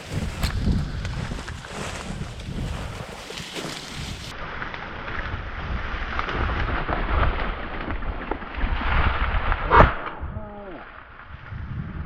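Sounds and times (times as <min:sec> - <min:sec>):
wind buffeting microphone: 0:00.0 - 0:04.4, 0:05.2 - 0:12.0.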